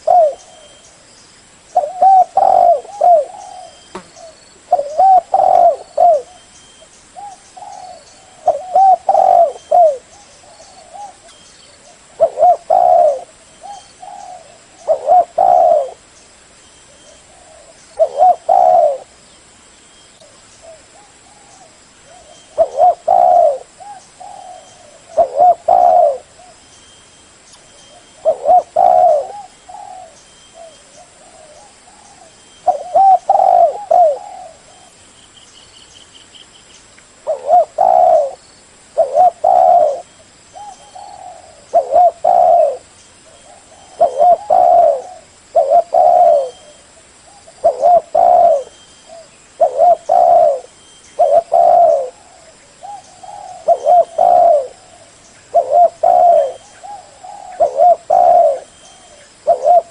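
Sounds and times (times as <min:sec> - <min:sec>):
dove cooing: 0:00.0 - 0:01.0, 0:01.8 - 0:06.5, 0:07.2 - 0:16.1, 0:16.9 - 0:19.2, 0:20.2 - 0:26.6, 0:27.9 - 0:35.0, 0:37.2 - 0:38.4, 0:39.0 - 0:59.9.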